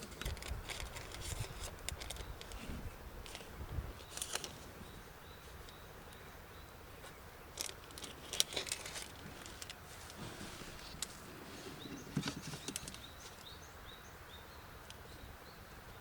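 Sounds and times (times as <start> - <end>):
low steady background hiss: 0.0 - 16.0.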